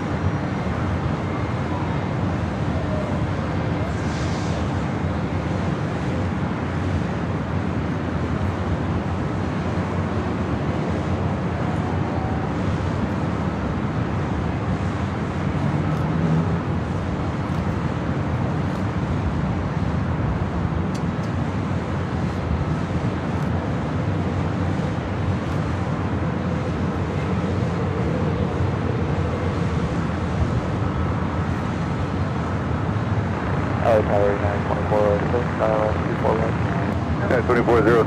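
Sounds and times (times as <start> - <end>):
distant engines roaring: 0.0 - 38.0
traffic noise: 0.0 - 38.0.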